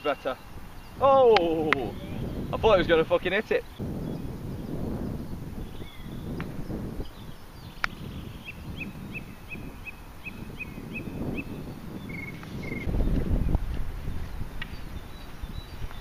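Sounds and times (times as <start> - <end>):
wind rumble on microphone: 0.3 - 16.0.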